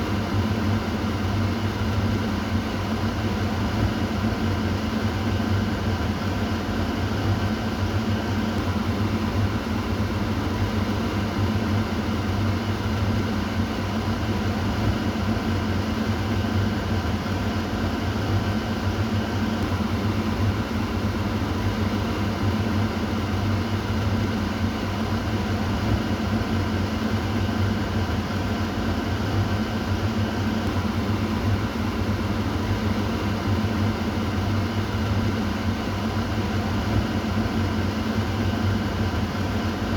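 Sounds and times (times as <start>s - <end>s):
kitchen exhaust fan running: 0.0s - 39.9s.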